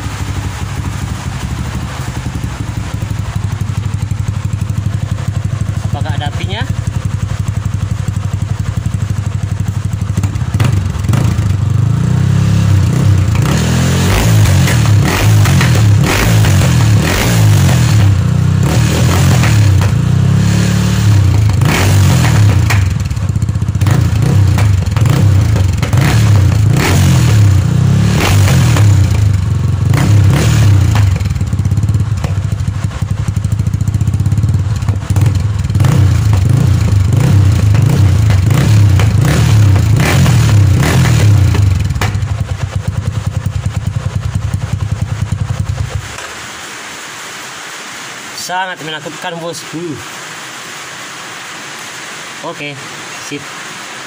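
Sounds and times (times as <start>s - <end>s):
exhaust cracks: 0.0s - 46.7s
motorcycle engine revving: 0.0s - 46.7s.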